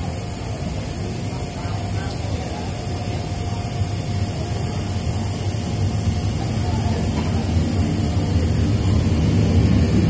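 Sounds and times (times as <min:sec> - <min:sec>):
distant jet engine whine: 0:00.0 - 0:10.0
wind: 0:00.0 - 0:10.0.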